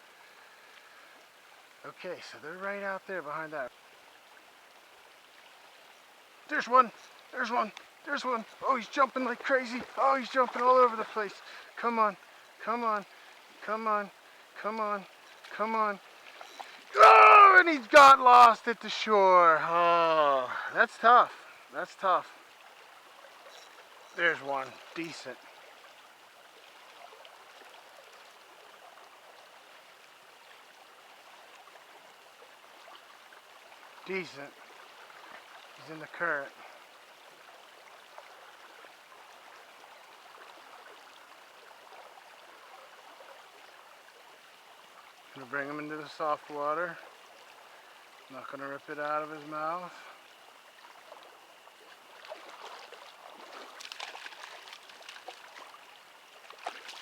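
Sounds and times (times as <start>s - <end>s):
mountain stream flowing: 0.0s - 57.0s
small water splashes: 0.2s - 57.0s.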